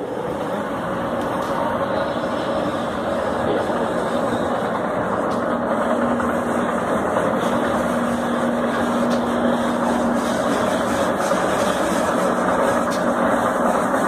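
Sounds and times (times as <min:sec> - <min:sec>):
escalator hum and rumble: 0:00.0 - 0:14.0.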